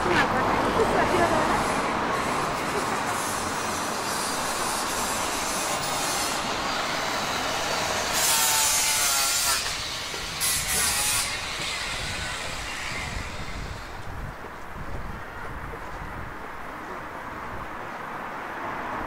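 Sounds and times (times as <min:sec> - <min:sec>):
street traffic: 0:00.0 - 0:19.0
vehicles passing loudly: 0:00.0 - 0:19.0.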